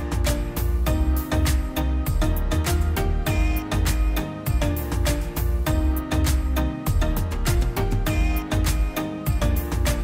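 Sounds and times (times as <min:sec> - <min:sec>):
plucked notes over bass beat: 0:00.0 - 0:10.0.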